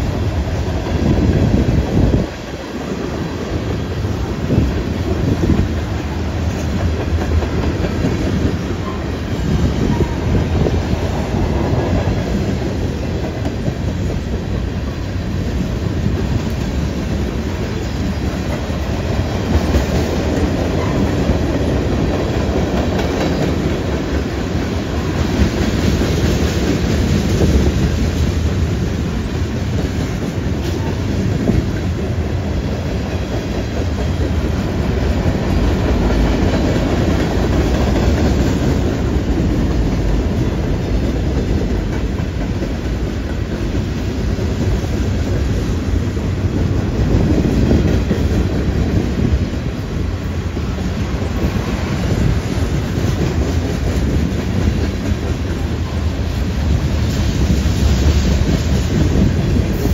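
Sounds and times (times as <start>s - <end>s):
freight train wheels rumbling: 0.0s - 59.9s
wheels clickety-clack over track: 0.0s - 59.9s.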